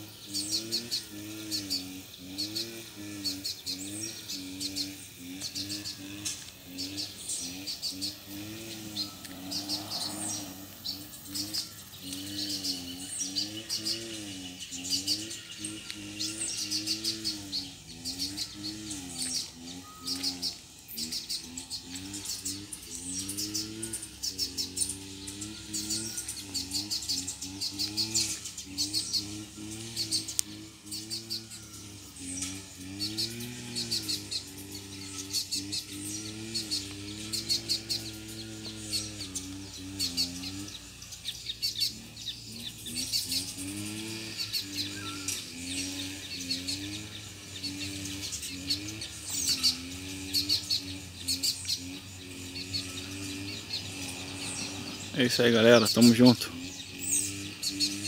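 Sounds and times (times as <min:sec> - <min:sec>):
bird chirping song: 0:00.0 - 0:58.0
low wavering drone: 0:00.0 - 0:58.0.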